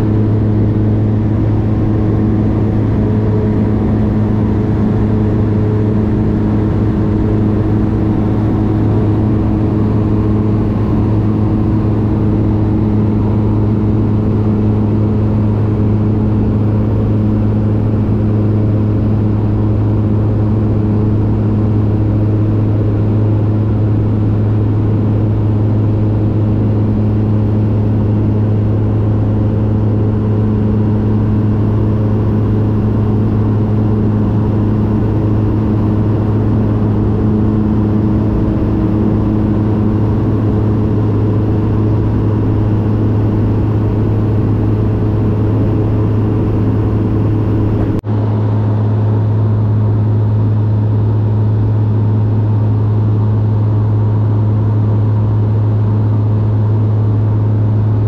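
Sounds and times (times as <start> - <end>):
vehicle engine drone: 0.0 - 58.0.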